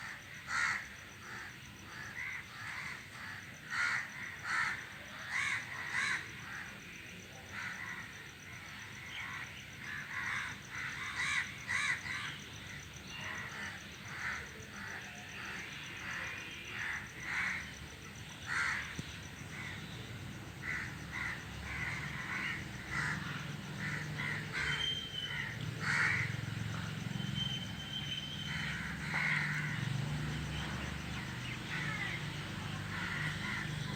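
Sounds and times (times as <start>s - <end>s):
crows cawing: 0.0s - 6.7s, 9.8s - 12.4s, 13.3s - 17.8s, 18.4s - 20.0s, 20.6s - 27.1s, 28.4s - 33.9s.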